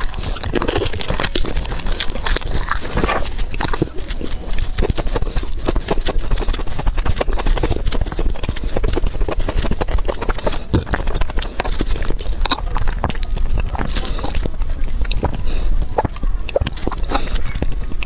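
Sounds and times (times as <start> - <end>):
wet chewing and lip-smacking: 0.0 - 18.0.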